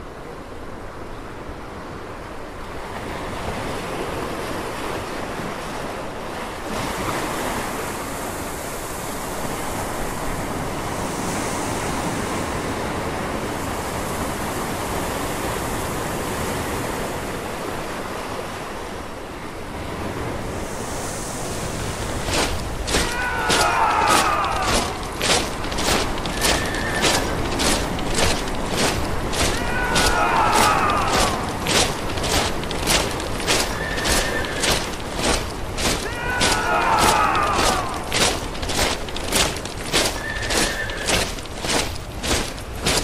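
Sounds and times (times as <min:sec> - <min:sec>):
ocean surf washing onto beach: 0:00.0 - 0:43.0.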